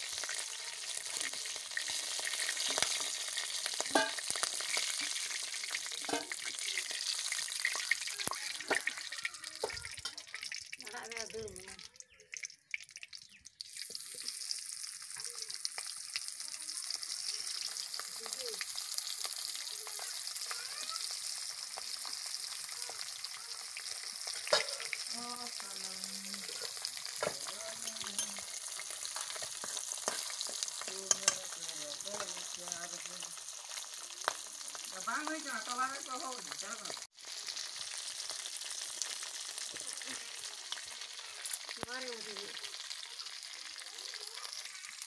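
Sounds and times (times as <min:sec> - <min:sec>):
food sizzling in hot oil: 0:00.0 - 0:45.0
oil popping: 0:00.0 - 0:45.0.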